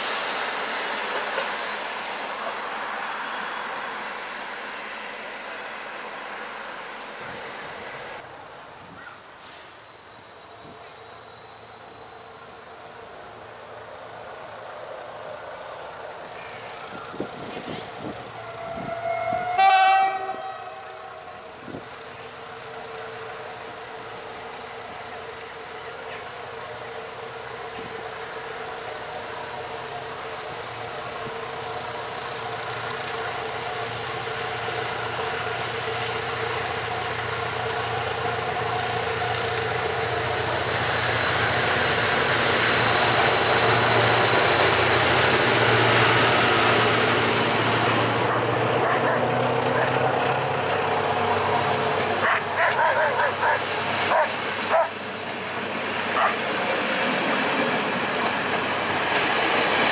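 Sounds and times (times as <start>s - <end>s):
diesel locomotive engine: 0.0s - 59.9s
train wheels rumbling on rails: 0.0s - 59.9s.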